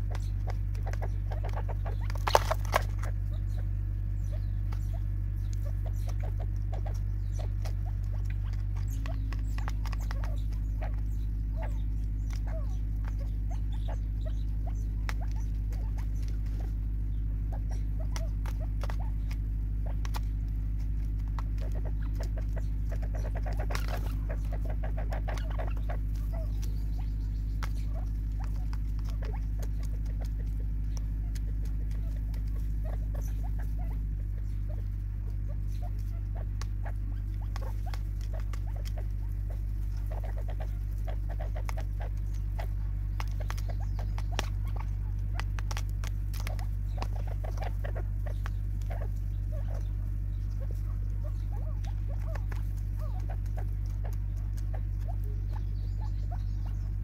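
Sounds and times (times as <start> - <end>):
beaks pecking in plastic tub: 0.0 - 57.0
steady low hum: 0.0 - 57.0.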